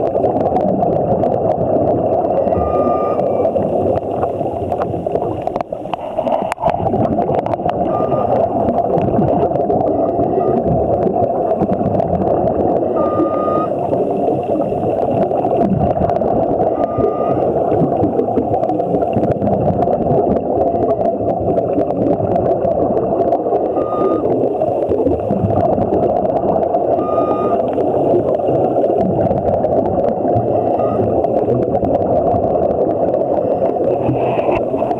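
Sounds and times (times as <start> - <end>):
muffled underwater rush of water: 0.0 - 34.9.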